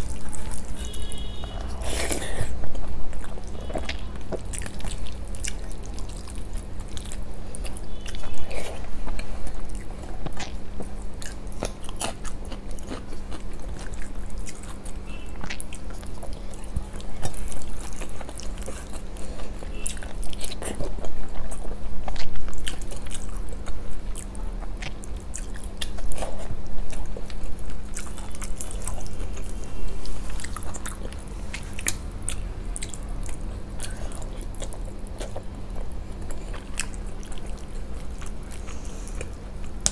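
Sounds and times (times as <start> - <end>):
chewing and lip smacks: 0.0 - 39.9
steady low hum: 0.0 - 39.9.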